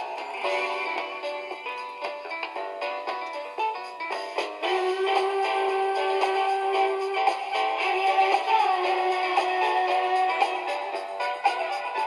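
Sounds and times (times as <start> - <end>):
tinny music from record player: 0.0 - 12.0.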